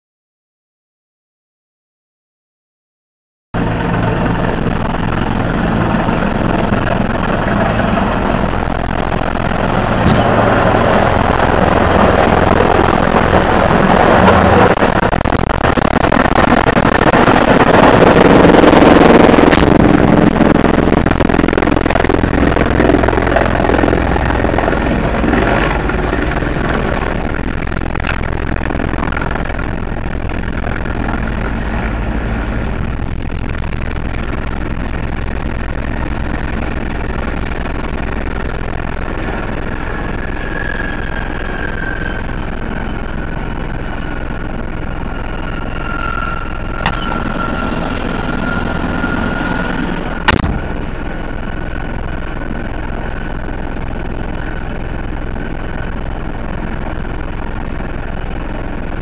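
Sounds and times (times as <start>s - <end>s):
helicopter turbine and rotor noise: 3.6s - 59.0s.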